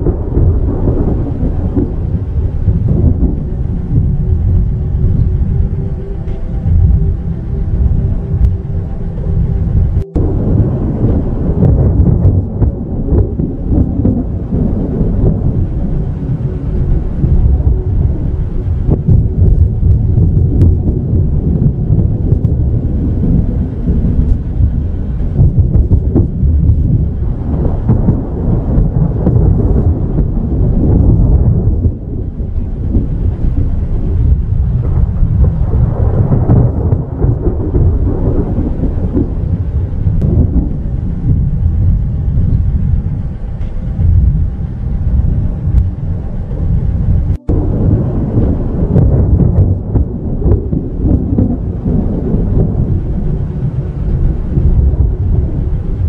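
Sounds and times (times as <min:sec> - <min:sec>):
rain: 0:00.0 - 0:56.0
thunder rumbling: 0:00.0 - 0:56.0.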